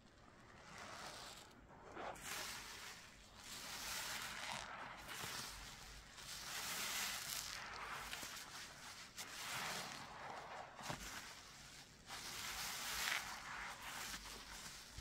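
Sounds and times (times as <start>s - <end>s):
sudsy sponge being squeezed: 0.2s - 15.0s.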